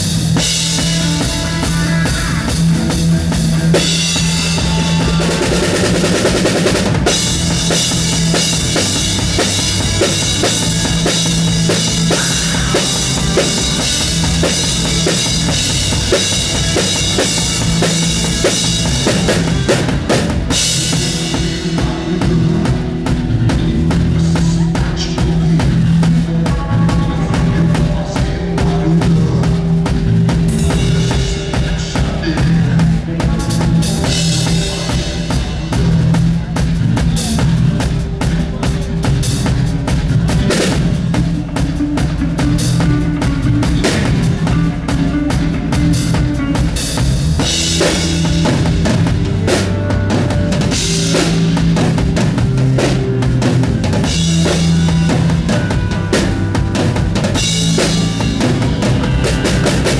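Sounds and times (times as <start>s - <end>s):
drum kit playing: 0.0s - 59.9s
instruments holding low notes: 0.0s - 59.9s.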